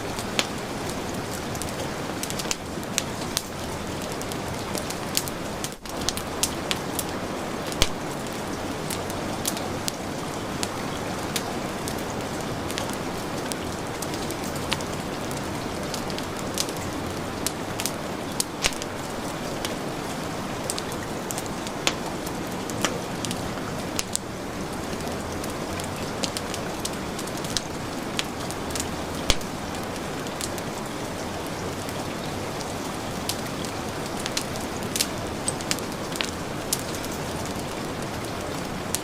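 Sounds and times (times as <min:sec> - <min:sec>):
heavy rain falling: 0:00.0 - 0:39.0
wood fire crackling: 0:00.0 - 0:39.0.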